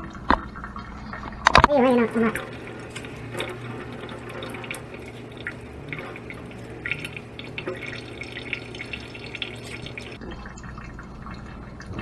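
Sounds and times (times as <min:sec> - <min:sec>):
faint steady hum: 0:00.0 - 0:12.0
water dripping into sink: 0:00.0 - 0:12.0.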